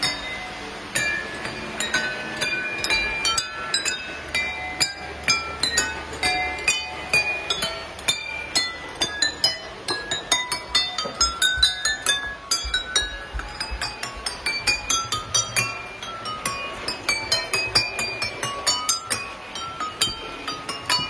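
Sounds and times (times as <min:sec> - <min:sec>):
wine glasses ringing melody: 0:00.0 - 0:21.0.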